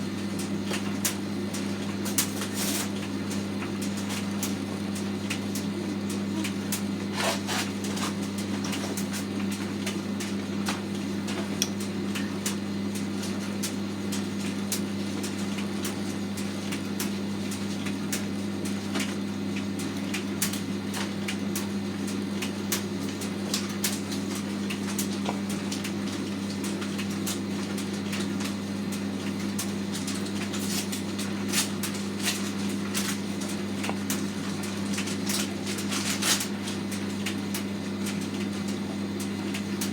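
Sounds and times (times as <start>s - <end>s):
tumble dryer motor hum: 0.0s - 39.9s.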